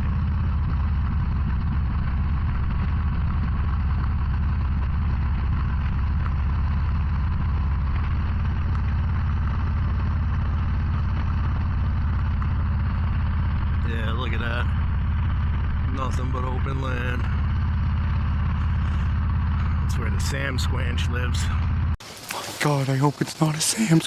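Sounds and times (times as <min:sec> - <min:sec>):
motorcycle engine cruising: 0:00.0 - 0:22.0
wind and road noise: 0:00.0 - 0:24.0.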